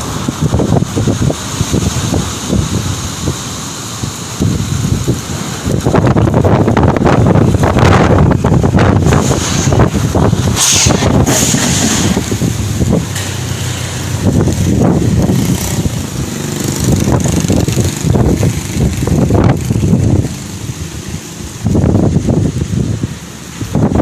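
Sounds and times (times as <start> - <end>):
gusty wind buffeting microphone: 0.0 - 24.0.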